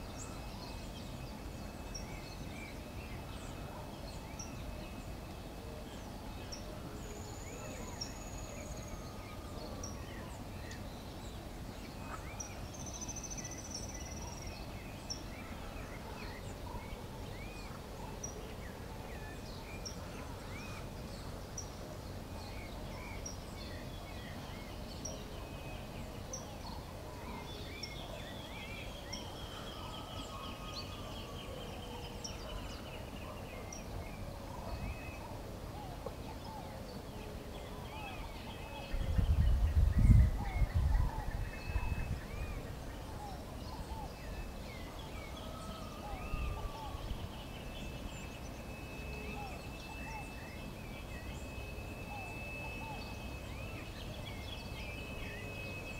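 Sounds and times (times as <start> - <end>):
low background noise: 0.0 - 55.9.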